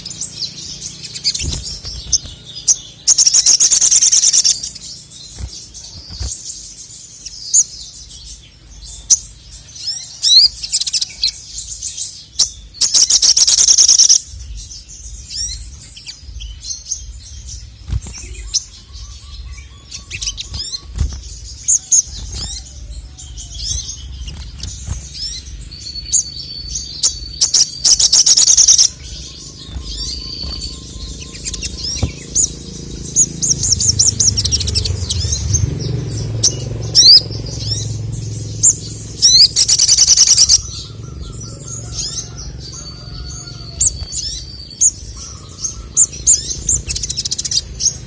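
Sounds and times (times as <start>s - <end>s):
bird chirping: 0.0s - 48.0s
bird rapid trilling: 0.0s - 48.0s.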